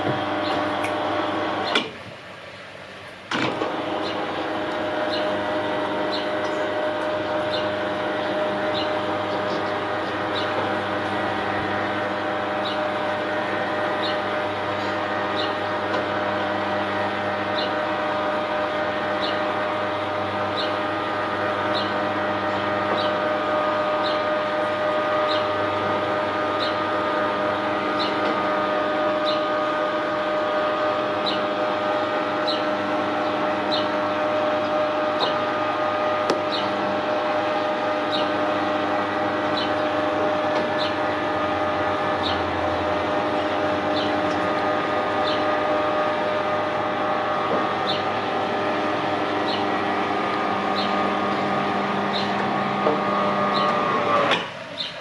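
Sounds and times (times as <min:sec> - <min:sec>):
electric motor hum: 0:00.0 - 0:02.0, 0:03.3 - 0:55.0.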